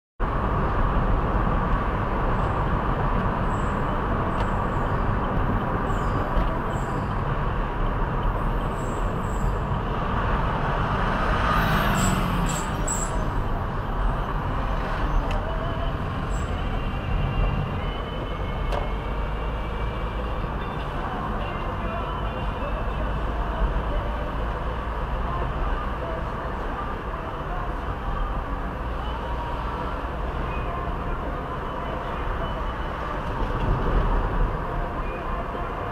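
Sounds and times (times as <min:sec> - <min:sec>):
road and engine noise in car: 0:00.2 - 0:35.9.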